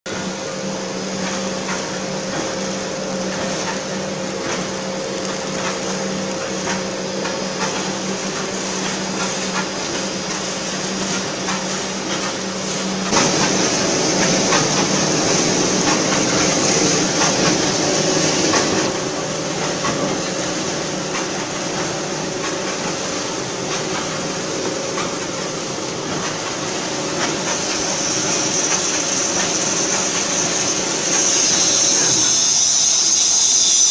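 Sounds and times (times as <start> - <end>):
veneer peeling machine humming: 0.1 - 33.9.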